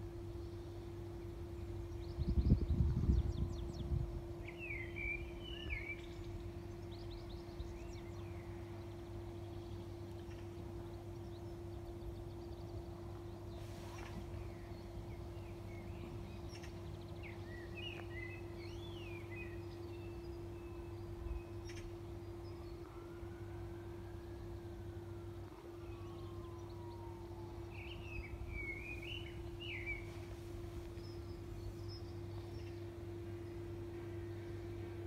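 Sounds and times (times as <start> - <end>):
songbirds chirping: 0.0 - 35.0
steady low hum: 0.0 - 35.0.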